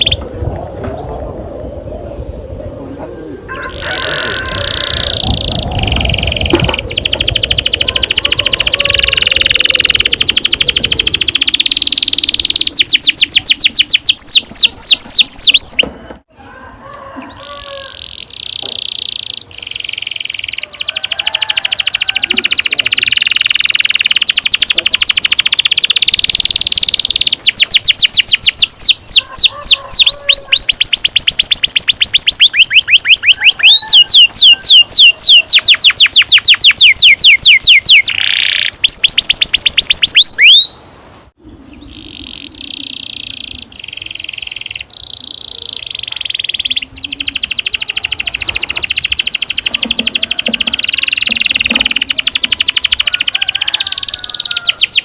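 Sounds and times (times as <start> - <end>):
canary singing trills: 0.0 - 0.3, 2.9 - 15.8, 17.2 - 40.8, 41.4 - 55.0.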